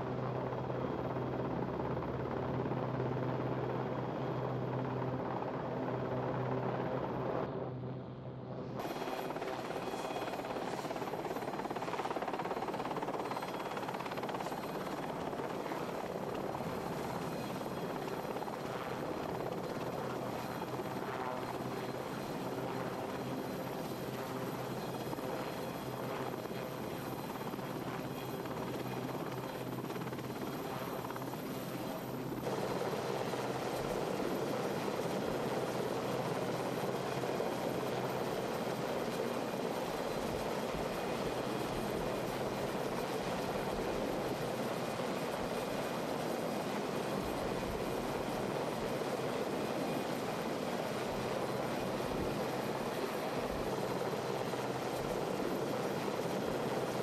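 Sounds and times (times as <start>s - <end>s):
helicopter engines and rotor: 0.0s - 57.0s.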